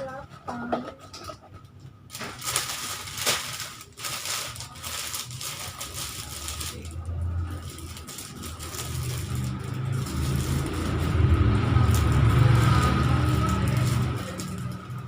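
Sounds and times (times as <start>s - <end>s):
plastic packets crinkling: 2.1s - 15.0s.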